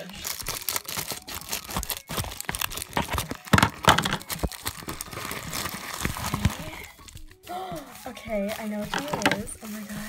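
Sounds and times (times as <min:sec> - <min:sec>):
metallic foil crinkling and tearing: 0:00.0 - 0:10.0.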